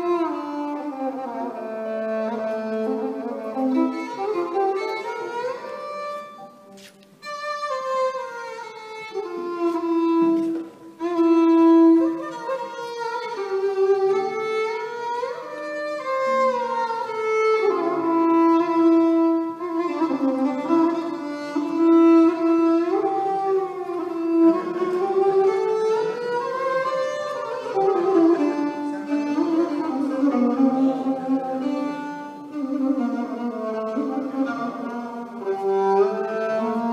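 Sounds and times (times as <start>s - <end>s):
violin playing slow melody: 0.0s - 36.9s.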